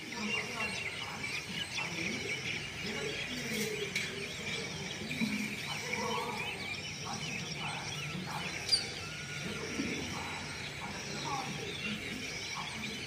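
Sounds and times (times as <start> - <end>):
faint distant voices: 0.0 - 13.0
small birds chirping: 0.0 - 13.0.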